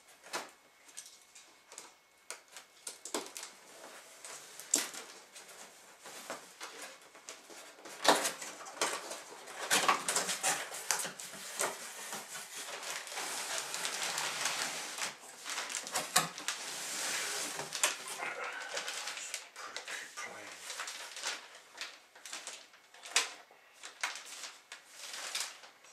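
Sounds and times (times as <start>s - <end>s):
plastic wrapping rustling: 2.4s - 25.9s.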